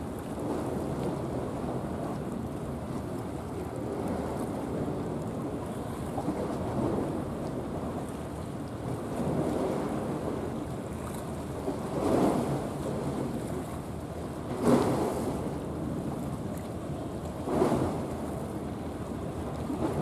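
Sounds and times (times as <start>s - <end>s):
waves washing ashore: 0.0s - 20.0s
wind noise on microphone: 0.0s - 20.0s.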